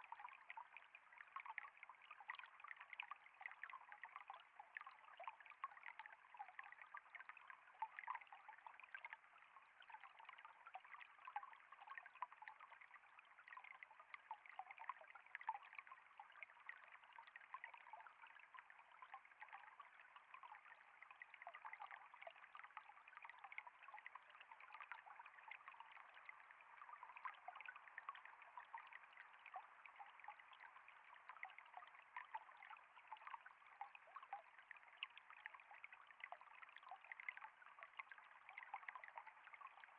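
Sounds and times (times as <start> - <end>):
faint trickle of flowing water: 0.0 - 39.9.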